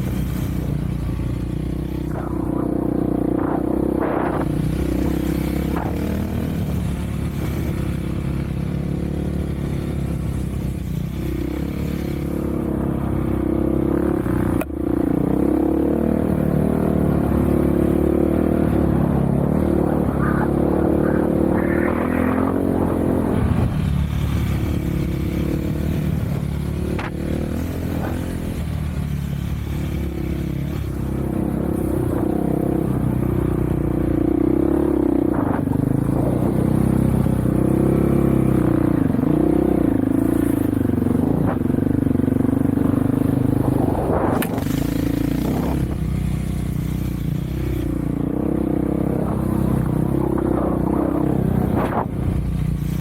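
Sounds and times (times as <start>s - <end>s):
off-road vehicle engine: 0.0s - 53.0s.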